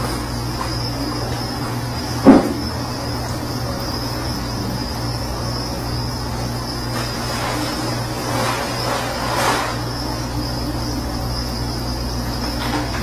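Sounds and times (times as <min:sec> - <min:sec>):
high-pitched whine: 0:00.0 - 0:13.0
steady low hum: 0:00.0 - 0:13.0.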